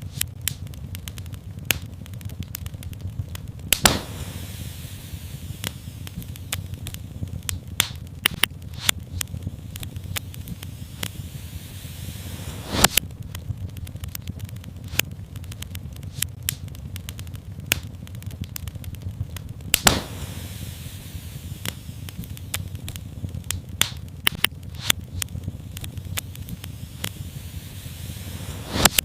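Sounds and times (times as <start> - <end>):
fire popping: 0.0 - 29.0
low rumble of flames: 0.0 - 29.0
wood fire crackling: 0.0 - 29.0.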